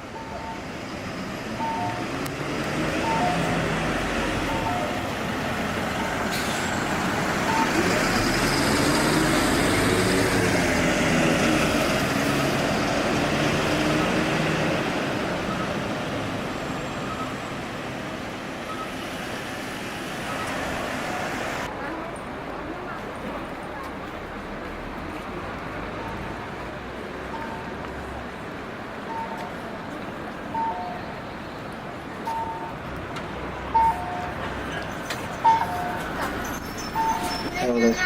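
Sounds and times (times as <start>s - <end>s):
bus engine running: 0.0s - 38.0s.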